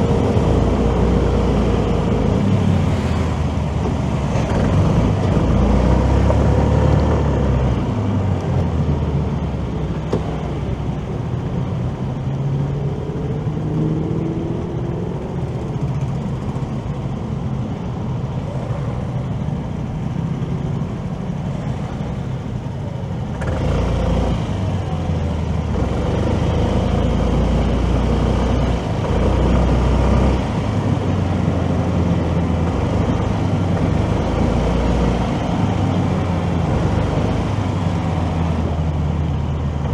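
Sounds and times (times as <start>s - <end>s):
motorcycle engine rumbling: 0.0s - 6.6s, 7.2s - 23.6s, 24.2s - 39.9s
road traffic noise: 0.0s - 39.9s.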